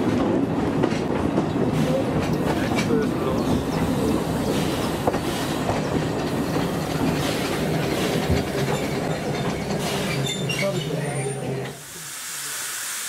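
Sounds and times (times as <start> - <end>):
clacking over rail joints: 0.0 - 11.8
train wheels rumbling on rails: 0.0 - 11.9.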